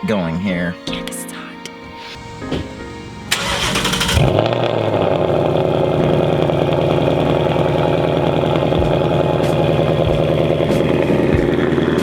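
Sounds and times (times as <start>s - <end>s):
car engine starting and idling: 1.8s - 12.0s.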